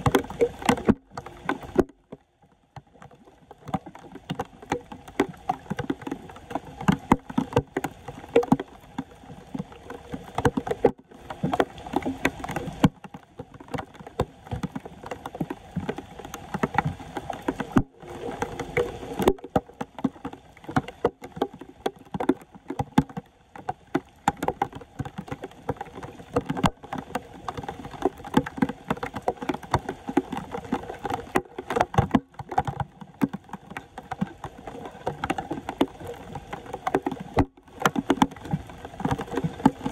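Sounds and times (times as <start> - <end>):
water splashing and sloshing: 0.0 - 39.9.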